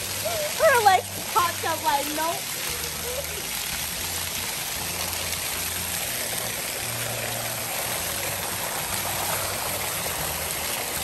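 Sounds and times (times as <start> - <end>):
water jets spraying on concrete: 0.0 - 11.0.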